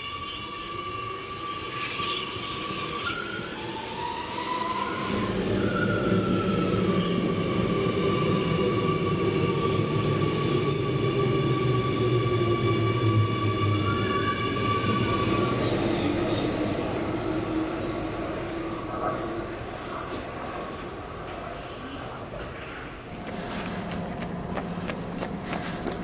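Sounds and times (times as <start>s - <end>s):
train wheel squeal: 0.0s - 21.0s
train low rumble: 4.6s - 26.0s.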